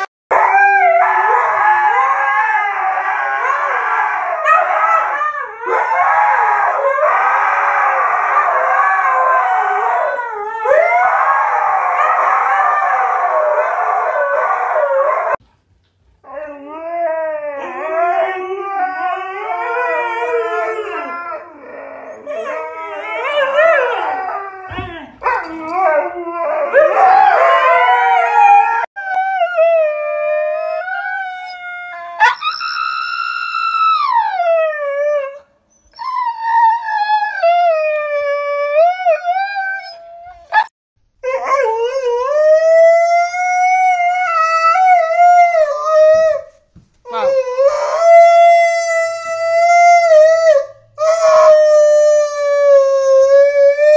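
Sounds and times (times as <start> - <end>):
dogs howling: 0.3 - 15.4, 16.2 - 46.5, 47.1 - 53.9.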